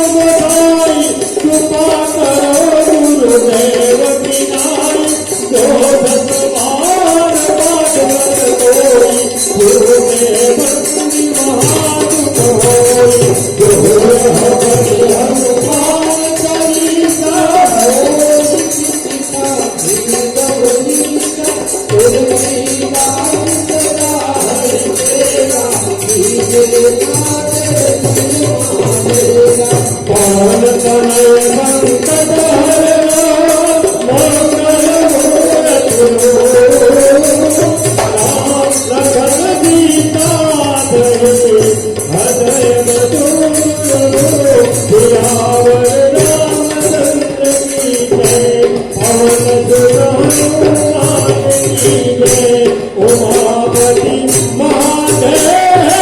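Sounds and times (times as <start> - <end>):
jingling hand percussion: 0.0 - 56.0.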